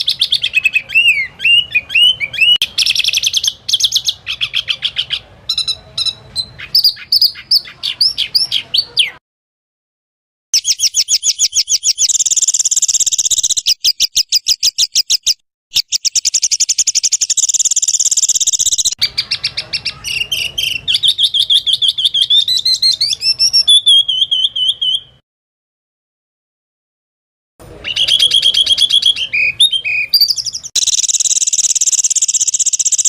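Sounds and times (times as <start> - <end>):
songbird singing: 0.0 - 9.2, 10.6 - 25.2, 27.7 - 33.0.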